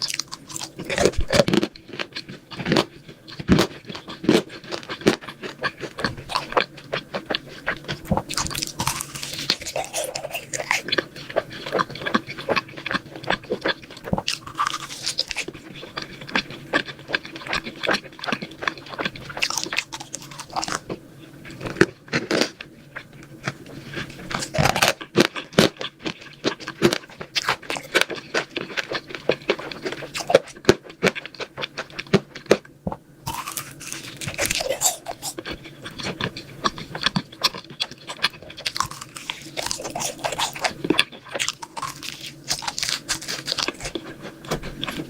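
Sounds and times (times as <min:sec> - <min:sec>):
person chewing crunchy sweets: 0:00.0 - 0:45.0.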